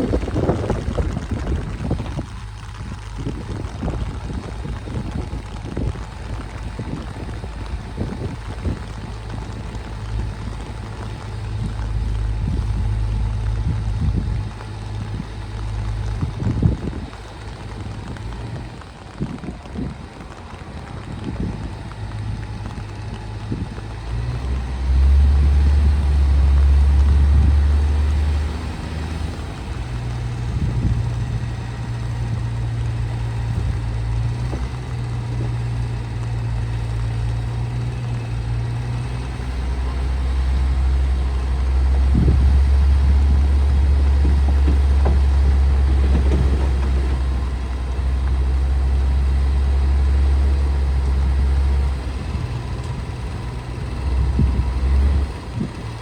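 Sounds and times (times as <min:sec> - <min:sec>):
diesel engine droning under load: 0:00.0 - 0:56.0.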